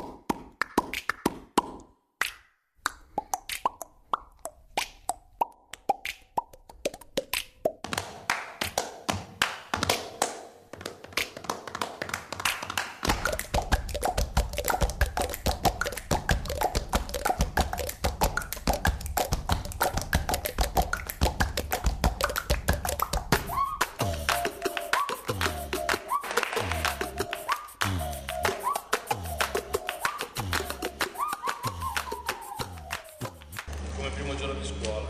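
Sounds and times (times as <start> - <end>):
fast percussive music: 3.3 - 33.7.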